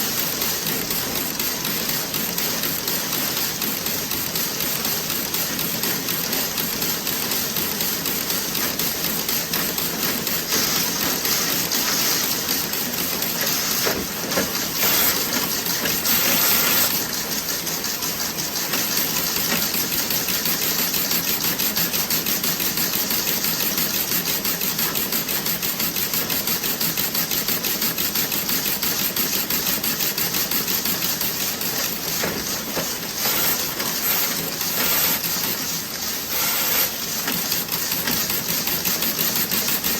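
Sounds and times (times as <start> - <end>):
knitting machine clatter: 0.0 - 39.9.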